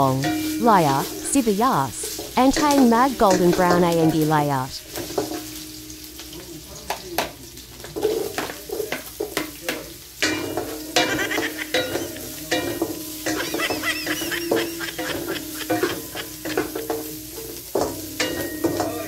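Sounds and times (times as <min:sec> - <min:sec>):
aromatics sizzling in hot oil: 0:00.0 - 0:19.0
spatula scraping pan: 0:00.1 - 0:04.2, 0:07.8 - 0:19.0.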